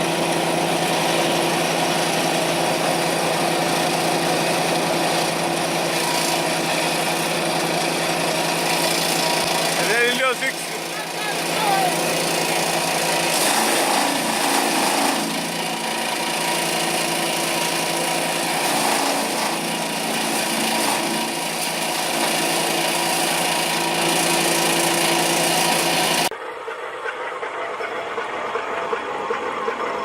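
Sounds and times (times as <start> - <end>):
wood grinding in chipper: 0.0 - 26.4
wood chipper motor humming: 0.0 - 30.0.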